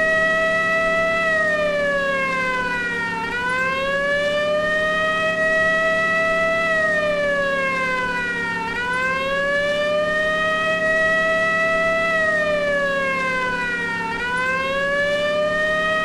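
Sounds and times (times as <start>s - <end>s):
low steady hum: 0.0s - 16.0s
police siren wailing: 0.0s - 16.0s.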